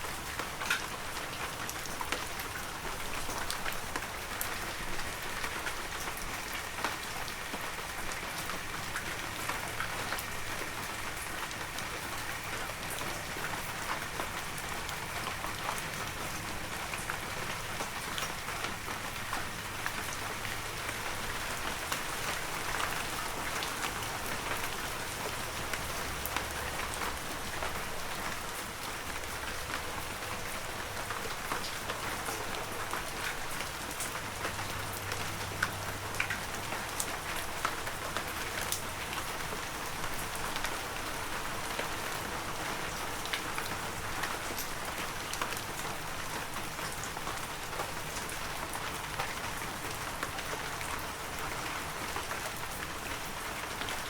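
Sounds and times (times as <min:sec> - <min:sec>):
raindrops pattering: 0:00.0 - 0:54.0.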